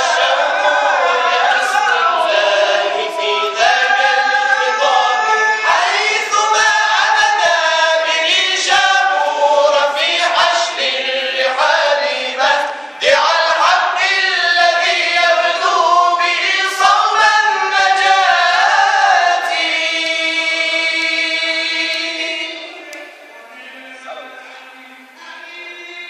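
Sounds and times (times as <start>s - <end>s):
men chanting in unison: 0.0s - 22.8s.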